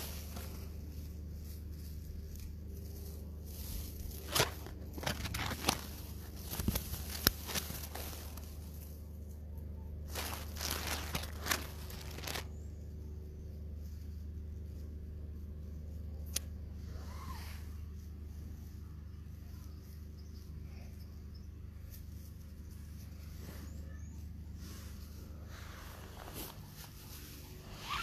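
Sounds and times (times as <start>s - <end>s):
fur and grass rustling on microphone: 0.0s - 20.6s, 21.7s - 28.0s
steady low hum: 0.0s - 28.0s.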